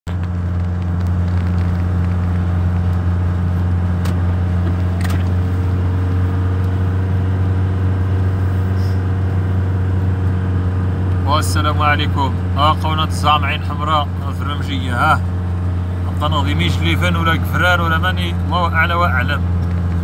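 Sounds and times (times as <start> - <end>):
car engine and tyres droning: 0.0 - 20.0.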